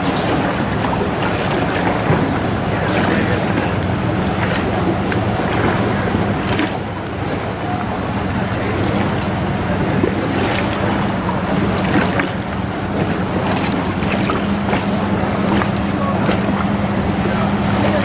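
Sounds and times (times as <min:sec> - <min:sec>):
engine humming: 0:00.0 - 0:18.0
wind buffeting microphone: 0:00.0 - 0:18.0.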